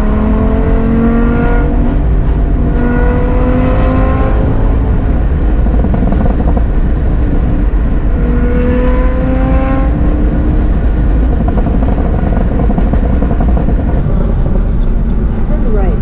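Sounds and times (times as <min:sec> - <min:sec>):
car engine accelerating: 0:00.0 - 0:16.0
road and wind noise: 0:00.0 - 0:16.0.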